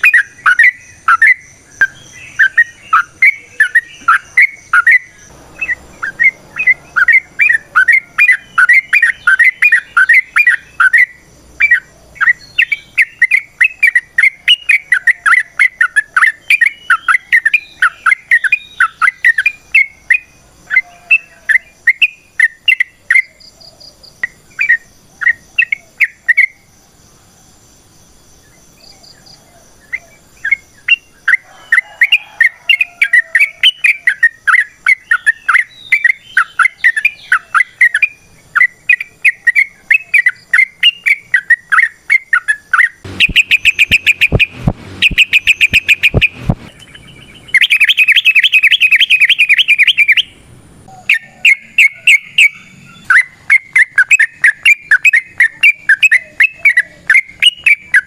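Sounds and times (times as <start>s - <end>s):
bulbul chirping song: 0.0s - 27.0s, 28.2s - 58.0s.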